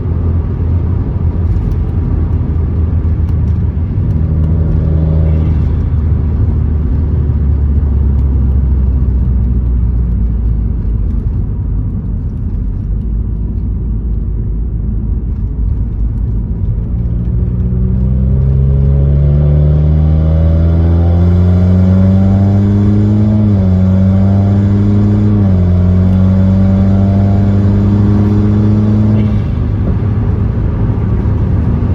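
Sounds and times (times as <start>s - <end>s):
car engine revving under load: 0.0s - 12.9s, 15.3s - 31.9s.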